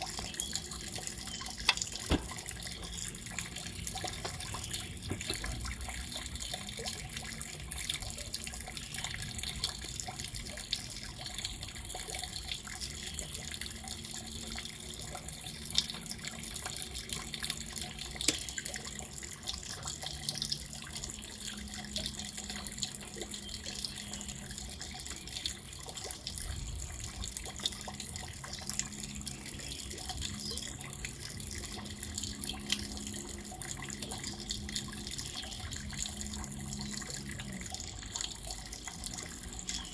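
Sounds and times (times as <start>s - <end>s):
drops ticking close by: 0.0s - 10.7s, 11.4s - 39.9s.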